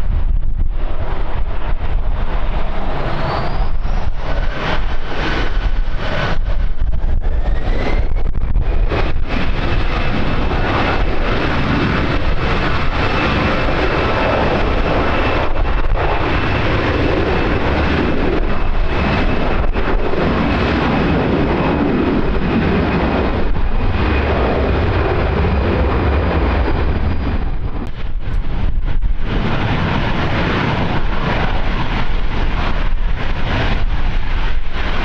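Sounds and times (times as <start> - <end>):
aircraft engines running: 0.0 - 35.0
wind buffeting microphone: 0.0 - 35.0.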